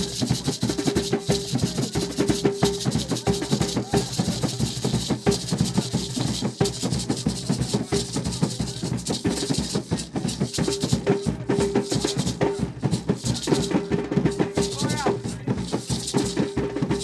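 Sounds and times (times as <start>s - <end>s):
gourd shakers rattling: 0.0s - 17.0s
hand drums beaten fast: 0.0s - 17.0s.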